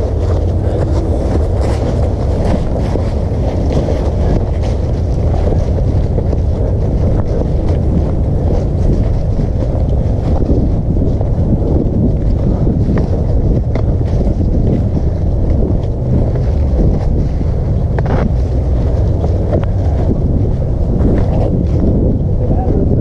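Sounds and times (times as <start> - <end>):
footsteps crunching in dry leaves: 0.0 - 22.0
wind buffeting microphone: 0.0 - 23.0.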